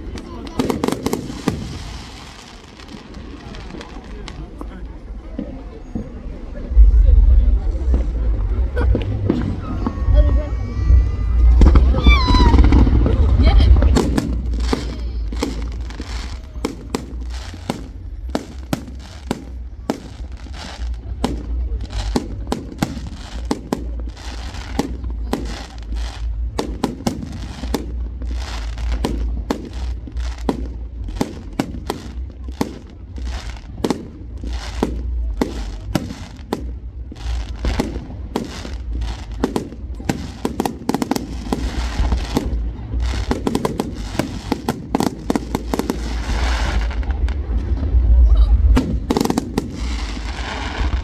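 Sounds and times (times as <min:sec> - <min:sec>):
deep rumble: 0:00.0 - 0:51.0
fireworks bangs and crackles: 0:00.0 - 0:51.0.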